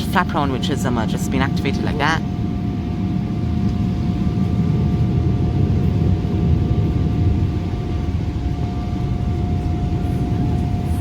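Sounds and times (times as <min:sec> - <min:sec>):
airplane cabin rumble: 0:00.0 - 0:11.0
high-pitched whine: 0:00.0 - 0:11.0.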